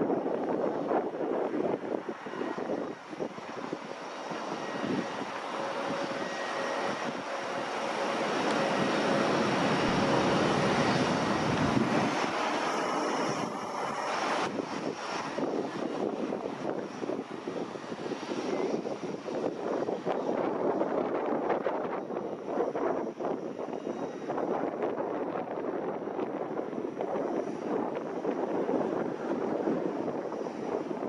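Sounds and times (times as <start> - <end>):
airliner engine on approach: 0.0 - 31.0
jet engines landing: 0.0 - 31.0.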